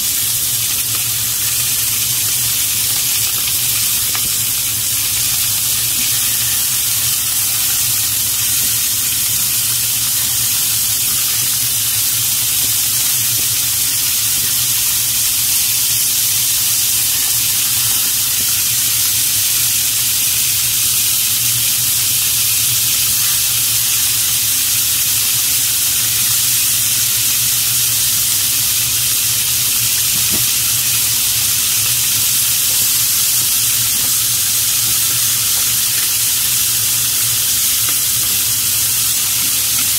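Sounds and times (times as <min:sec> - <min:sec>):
pork sizzling in a frying pan: 0:00.0 - 0:39.9.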